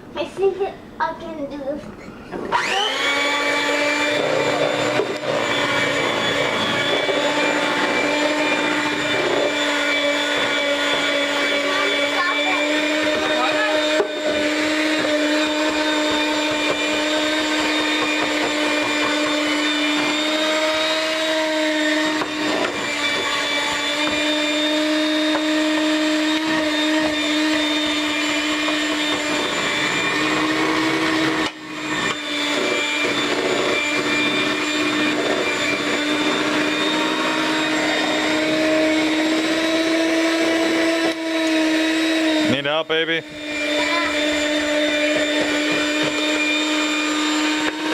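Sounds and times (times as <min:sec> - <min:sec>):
electric hand mixer whining: 0:01.8 - 0:47.9.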